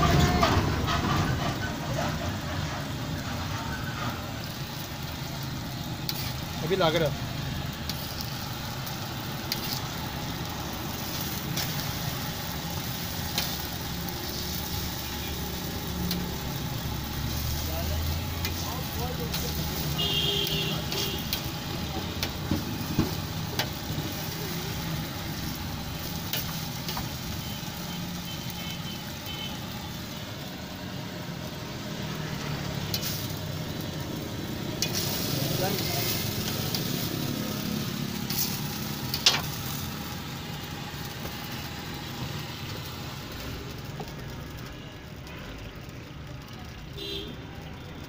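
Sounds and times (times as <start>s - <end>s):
food sizzling on a griddle: 0.0s - 48.0s.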